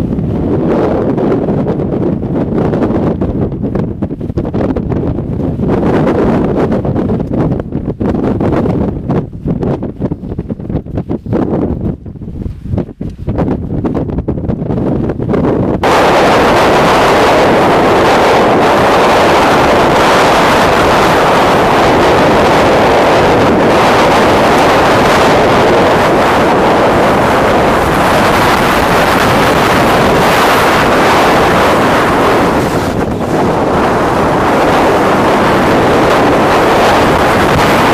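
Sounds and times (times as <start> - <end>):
storm wind on microphone: 0.0 - 37.9.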